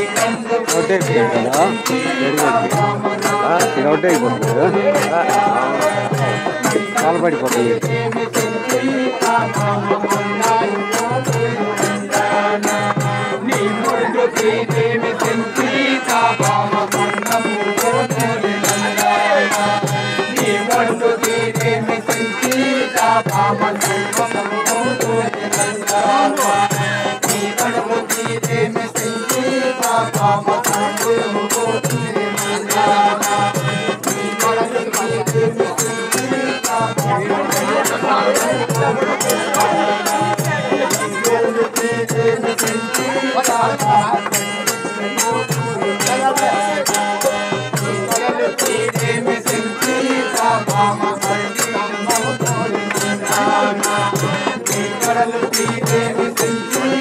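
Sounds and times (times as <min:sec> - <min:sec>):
folk dance music: 0:00.0 - 0:57.0
rattle-like percussion strikes: 0:00.0 - 0:57.0.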